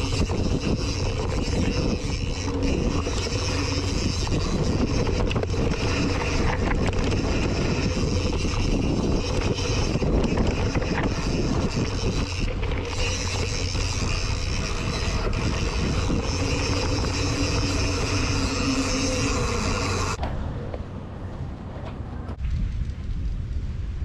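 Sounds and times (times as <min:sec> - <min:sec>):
bike rattling on rough ground: 0:00.0 - 0:20.2
wind buffeting microphone: 0:00.0 - 0:24.0.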